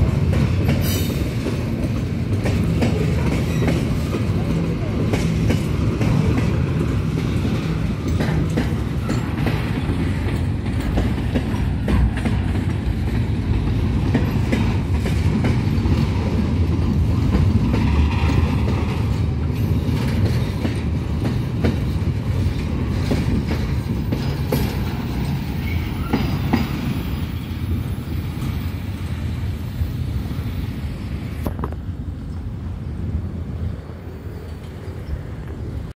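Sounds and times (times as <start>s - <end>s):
freight train wheels rumbling: 0.0s - 35.9s.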